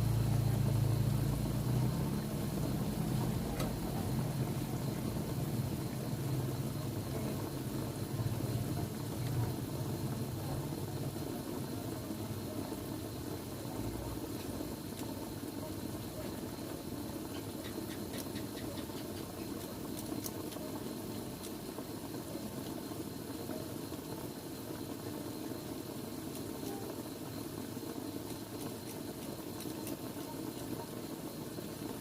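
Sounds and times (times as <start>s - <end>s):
pot simmering and bubbling: 0.0s - 32.0s.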